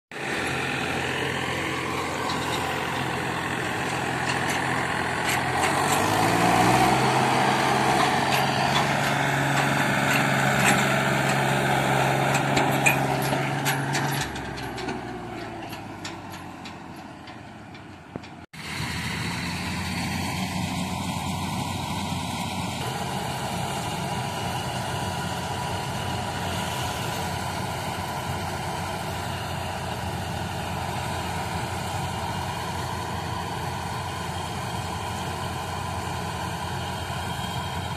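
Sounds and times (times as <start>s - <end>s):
combine harvester droning: 0.1s - 37.9s
diesel tractor engine under load: 0.1s - 37.9s.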